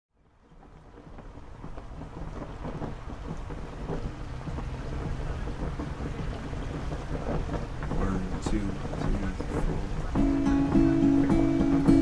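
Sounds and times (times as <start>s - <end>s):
steady rain: 0.1s - 12.0s
deep low rumble: 0.4s - 12.0s.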